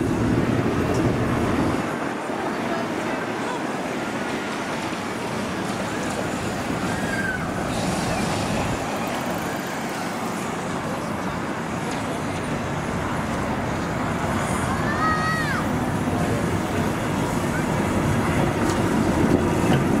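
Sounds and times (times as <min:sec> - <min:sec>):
road traffic passing cars: 0:00.0 - 0:20.0.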